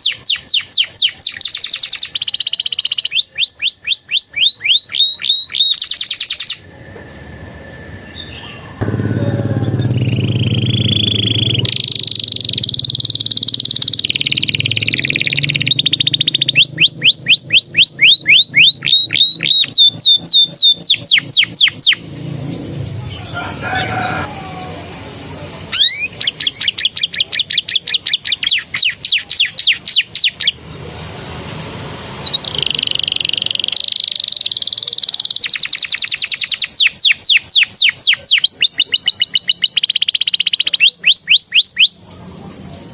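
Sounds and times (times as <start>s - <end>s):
canary singing: 0.0s - 6.7s, 8.2s - 24.8s, 25.7s - 30.7s, 32.2s - 42.1s.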